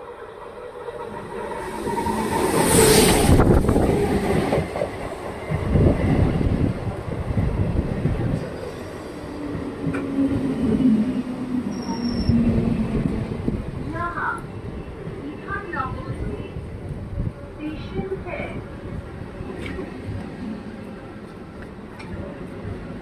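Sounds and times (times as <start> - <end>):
electric train running past: 0.0 - 23.0.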